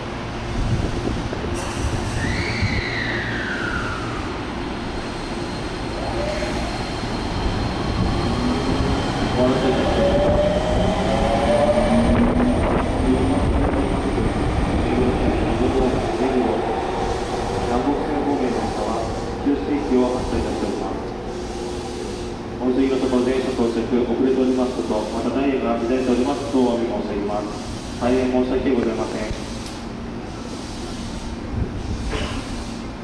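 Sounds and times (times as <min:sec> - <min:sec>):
rail rumble: 0:00.0 - 0:26.5.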